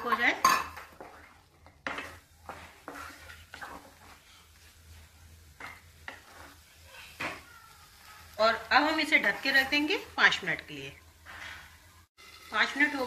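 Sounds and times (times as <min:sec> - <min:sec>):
wooden spatula scraping a frying pan: 0:00.0 - 0:07.5, 0:08.5 - 0:10.2, 0:11.2 - 0:13.0.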